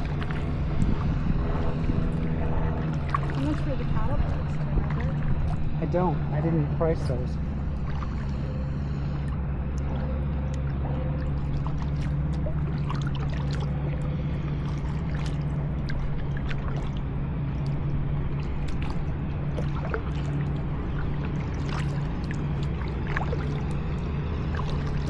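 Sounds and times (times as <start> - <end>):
paddle splashing water: 0.0 - 25.0
steady low hum: 0.0 - 25.0.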